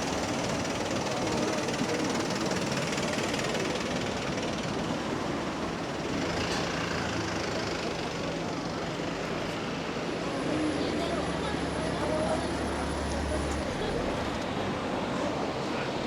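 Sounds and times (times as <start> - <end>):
passing road traffic: 0.0 - 16.0.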